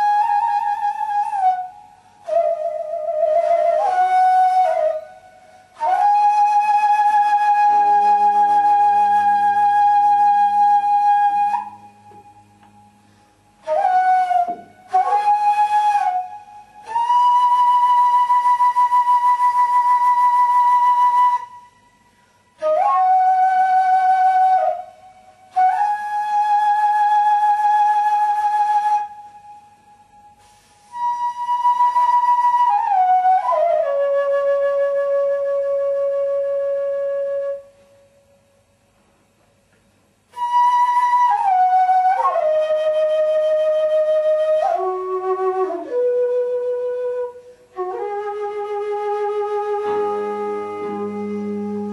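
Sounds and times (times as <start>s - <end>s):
solo flute playing slow notes: 0.0s - 38.4s, 40.3s - 51.9s.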